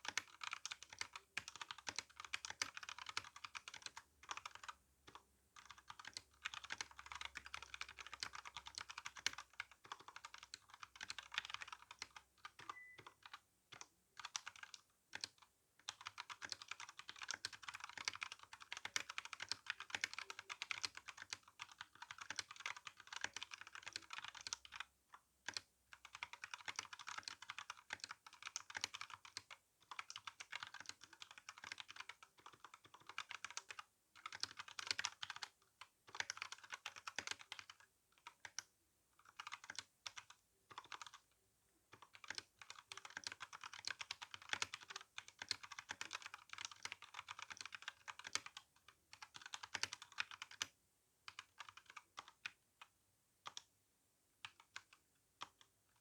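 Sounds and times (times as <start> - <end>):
mechanical keyboard typing: 0.0 - 41.2, 41.9 - 50.7, 51.3 - 52.6, 53.4 - 53.7, 54.4 - 55.7.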